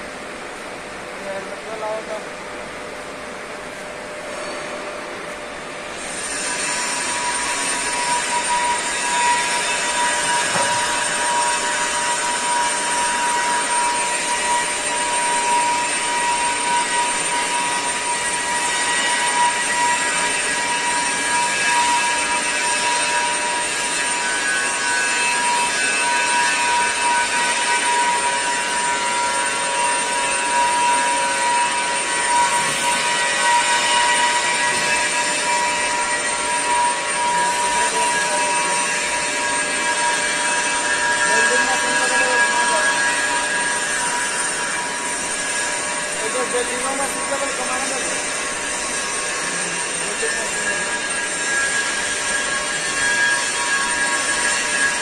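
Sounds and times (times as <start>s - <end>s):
welding arc hissing and whining: 0.2s - 55.0s.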